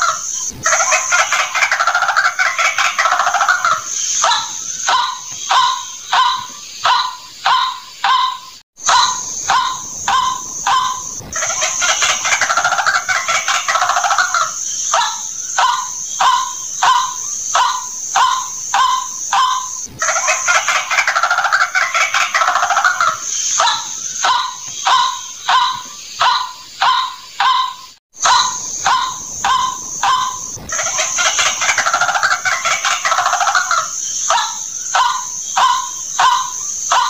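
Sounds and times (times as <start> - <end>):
bird calling repeated notes: 0.0 - 37.0
bird rapid chattering: 0.0 - 37.0.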